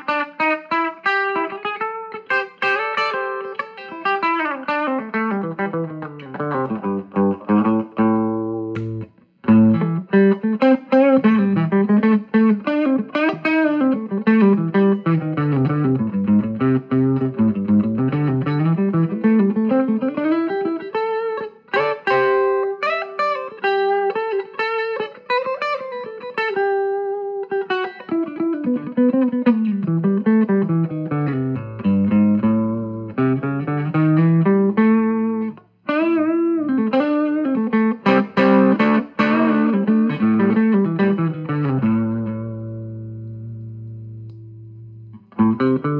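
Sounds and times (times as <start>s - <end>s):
electric guitar through tube amp: 0.0s - 45.9s.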